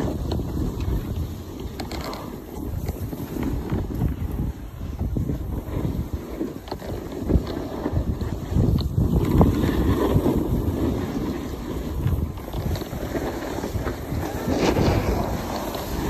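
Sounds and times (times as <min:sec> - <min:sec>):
skis sliding over snow: 0:00.0 - 0:16.0
wind on microphone: 0:00.0 - 0:16.0.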